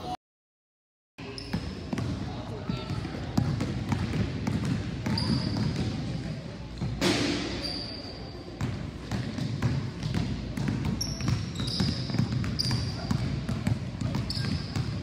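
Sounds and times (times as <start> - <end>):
sneakers squeaking: 1.2 - 15.0.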